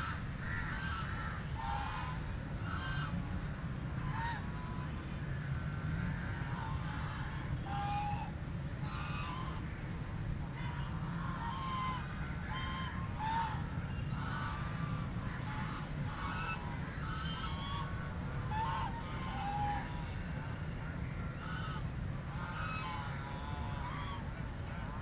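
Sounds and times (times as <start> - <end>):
ducks quacking: 0.0 - 9.8, 10.5 - 25.0
low background rumble: 0.0 - 25.0.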